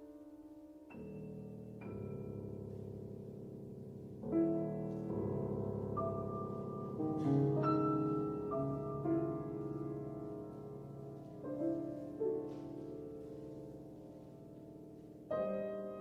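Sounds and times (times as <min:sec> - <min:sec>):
slow solo piano chords: 0:00.0 - 0:16.0.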